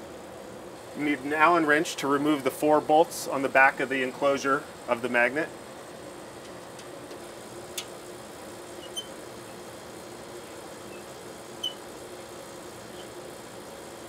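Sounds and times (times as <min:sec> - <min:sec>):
low equipment hum: 0:00.0 - 0:14.0.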